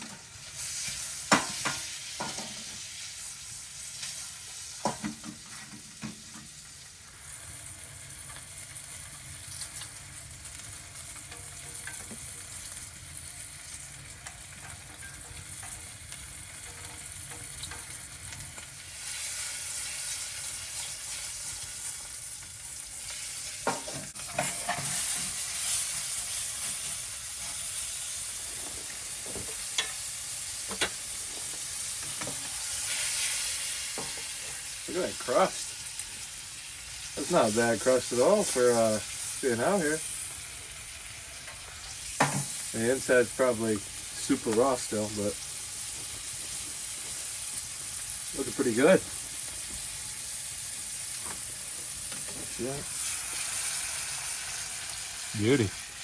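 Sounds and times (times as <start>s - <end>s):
steak sizzling in a pan: 0.0s - 56.0s.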